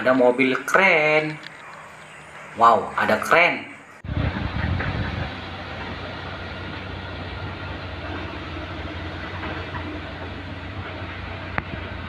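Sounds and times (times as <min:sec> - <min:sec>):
diesel engine rumbling: 0:00.8 - 0:12.0.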